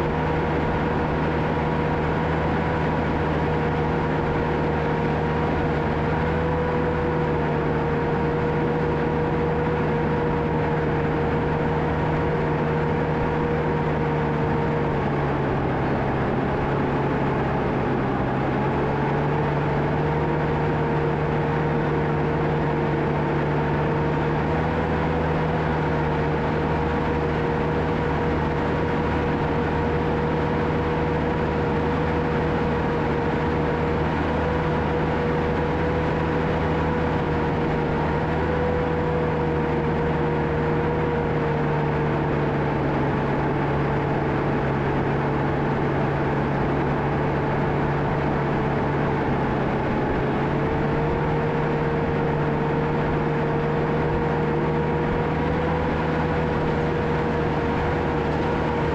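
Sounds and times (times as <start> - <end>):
diesel engine running: 0.0 - 58.9
steady whine: 0.0 - 58.9.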